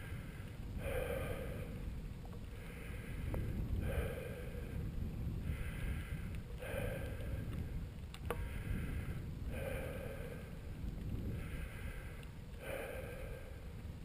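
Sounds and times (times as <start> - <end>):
person breathing hard: 0.0 - 14.0
wind rumble on microphone: 0.0 - 14.0.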